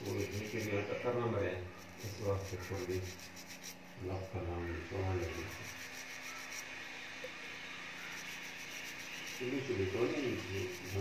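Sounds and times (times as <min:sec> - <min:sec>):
fingertips rubbing grains in a tray: 0:00.0 - 0:11.0.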